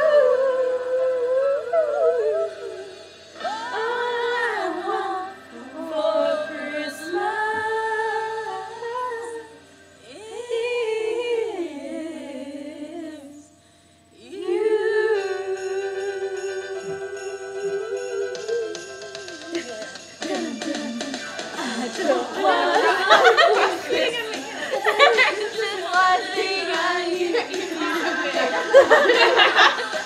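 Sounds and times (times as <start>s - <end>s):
women singing a cappella: 0.0s - 13.6s, 14.2s - 30.0s.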